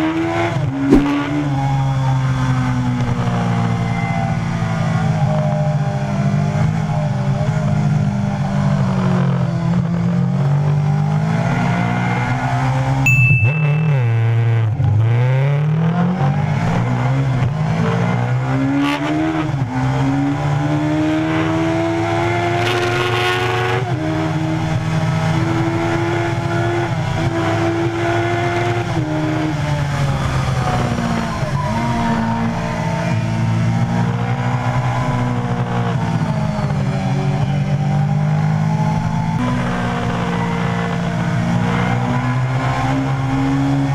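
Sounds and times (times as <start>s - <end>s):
motorcycle engine accelerating: 0.6s - 17.2s, 19.2s - 43.9s.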